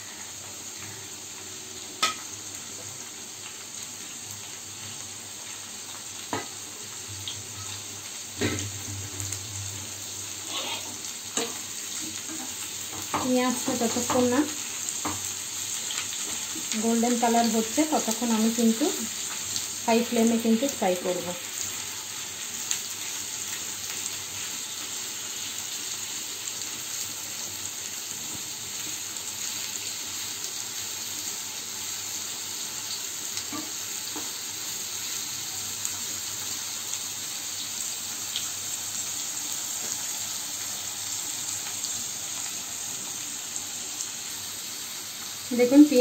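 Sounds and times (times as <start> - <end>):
onions sizzling in hot oil: 0.0 - 46.0.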